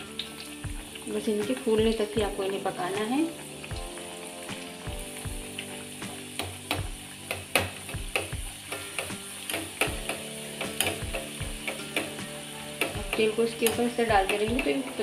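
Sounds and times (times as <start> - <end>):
deep-frying in hot oil: 0.0 - 15.0.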